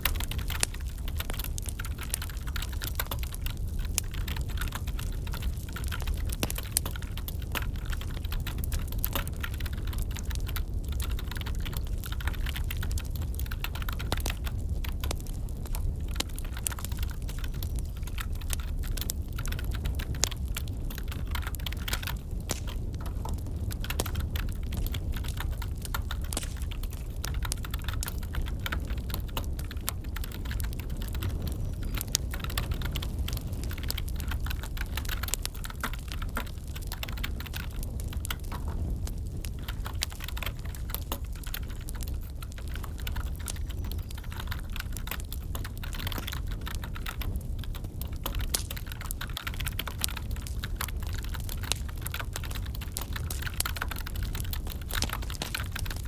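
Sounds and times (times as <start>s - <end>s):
wood fire crackling: 0.0s - 56.0s
typing on computer keyboard: 0.1s - 56.0s.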